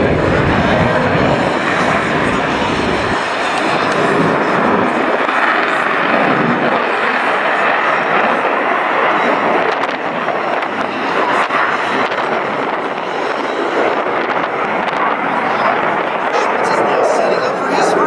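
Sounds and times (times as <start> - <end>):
jet aircraft roar: 0.0 - 18.0.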